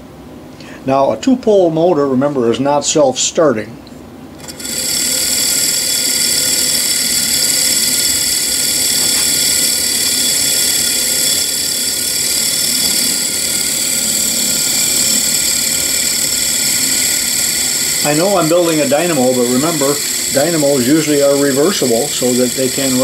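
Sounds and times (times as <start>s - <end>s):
small electric motor whining: 4.4s - 23.0s.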